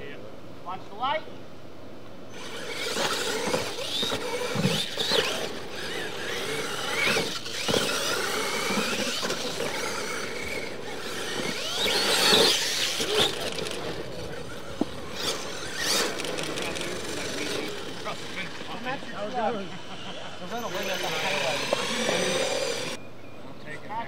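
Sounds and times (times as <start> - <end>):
toy truck electric motors whining: 2.3 - 23.0.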